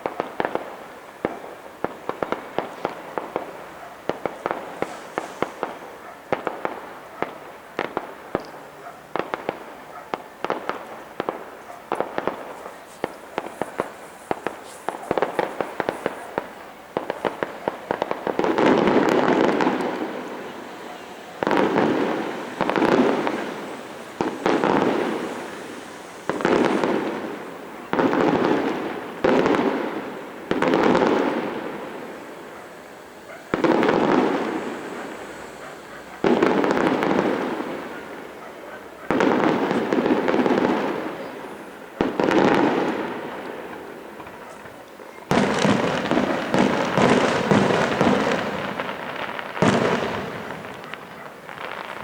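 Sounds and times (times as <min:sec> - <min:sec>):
firework shells bursting: 0:00.0 - 0:38.4, 0:39.2 - 0:52.0
crackling firework bursts: 0:00.0 - 0:52.0.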